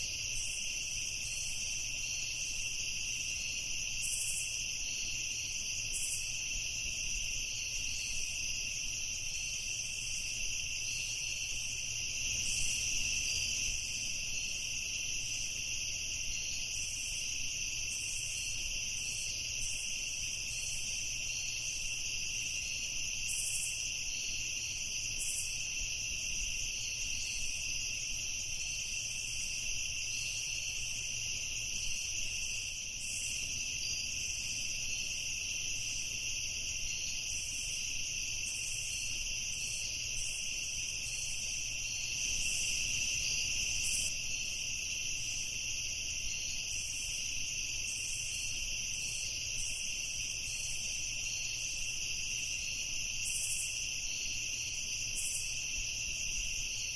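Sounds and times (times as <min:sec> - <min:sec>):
crickets trilling: 0:00.0 - 0:56.9
faint insect chirps: 0:00.0 - 0:56.9.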